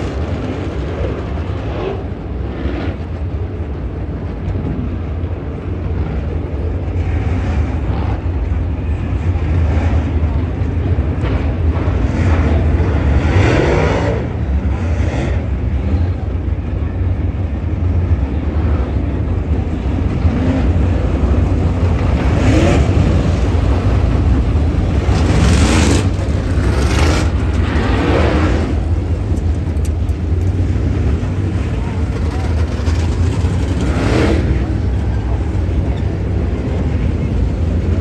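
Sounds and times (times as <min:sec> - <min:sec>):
race cars passing: 0:00.0 - 0:38.0
steady low rumble: 0:00.0 - 0:38.0.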